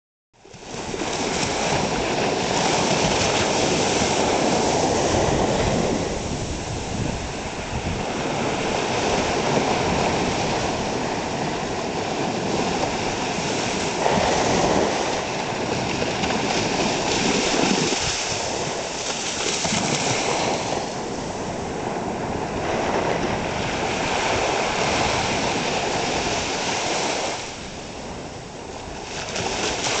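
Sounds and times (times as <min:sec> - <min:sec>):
ocean surf breaking on beach: 0:00.4 - 0:30.0.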